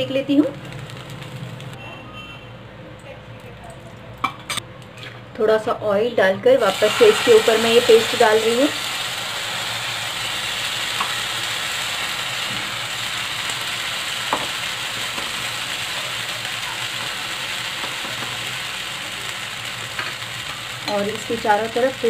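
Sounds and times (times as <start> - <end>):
batter sizzling in oil: 0.0 - 2.3, 6.6 - 22.0.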